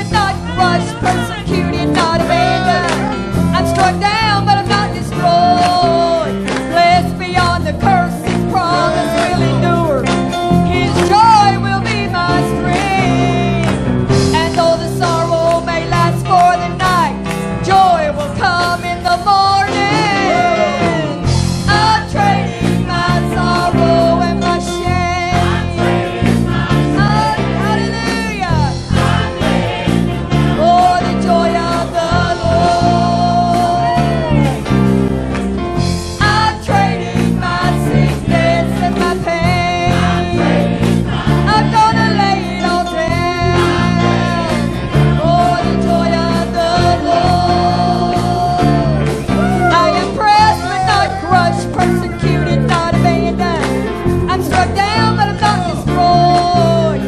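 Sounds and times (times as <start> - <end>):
gospel singing with band: 0.0 - 57.0.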